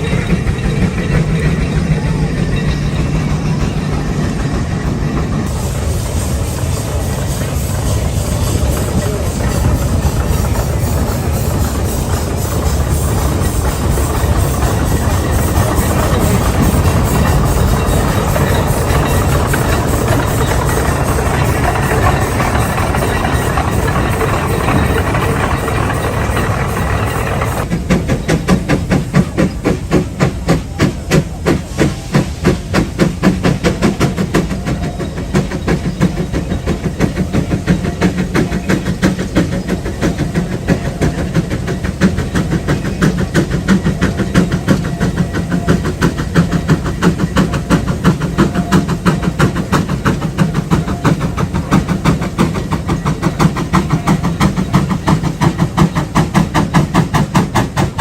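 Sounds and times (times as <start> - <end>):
steam engine exhaust beats: 0.0 - 58.0
steam hissing: 0.0 - 58.0.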